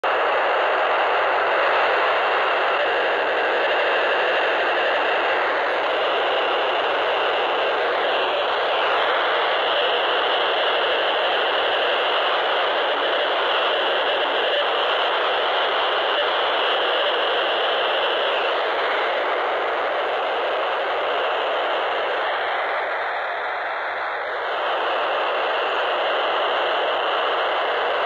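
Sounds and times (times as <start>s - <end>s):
radio data buzz: 0.0s - 28.0s.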